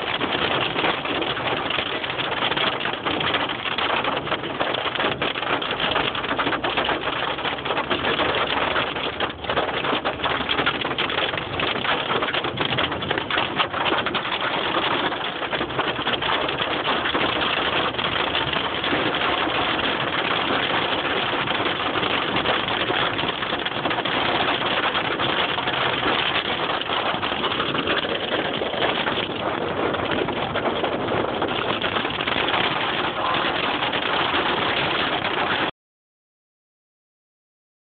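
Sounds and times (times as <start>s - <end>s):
hail and rain pelting down: 0.0s - 35.7s.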